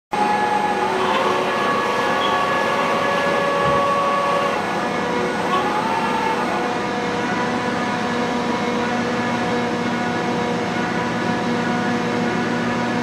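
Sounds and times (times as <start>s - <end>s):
milling machine whine: 0.2s - 13.0s.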